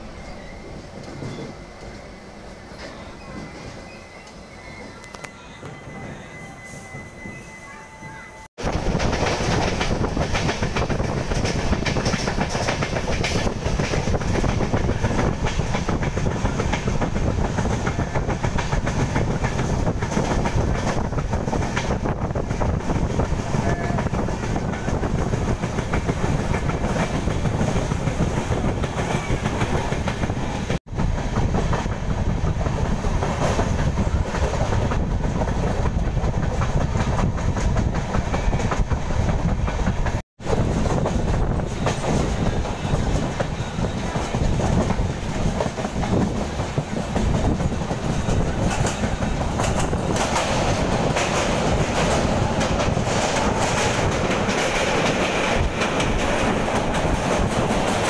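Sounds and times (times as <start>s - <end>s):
clickety-clack of rail joints: 1.0s - 2.0s, 8.6s - 58.0s
train wheels rumbling on track: 8.6s - 58.0s.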